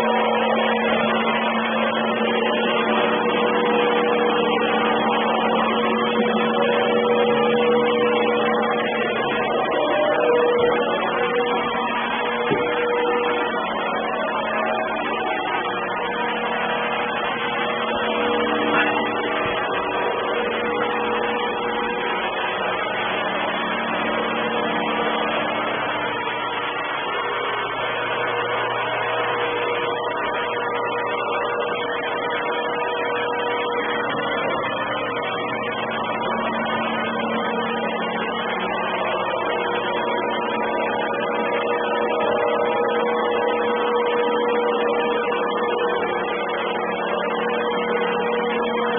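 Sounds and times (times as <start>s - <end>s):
robot vacuum cleaner running: 0.0s - 48.9s.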